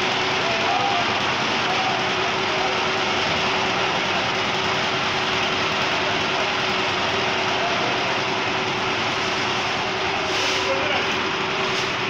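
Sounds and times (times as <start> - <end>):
concrete mixer engine running: 0.0 - 12.0.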